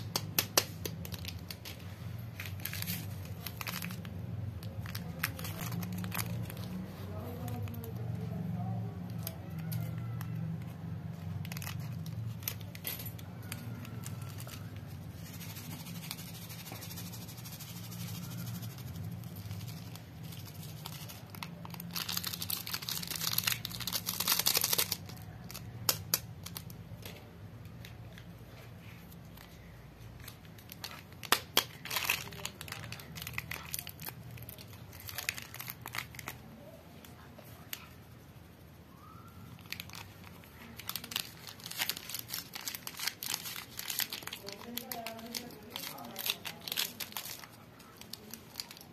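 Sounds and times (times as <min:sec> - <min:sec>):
sachet tearing open: 0:00.0 - 0:27.0, 0:29.2 - 0:37.9, 0:39.0 - 0:48.9
paper sachet crinkling: 0:00.0 - 0:38.3, 0:39.0 - 0:48.9.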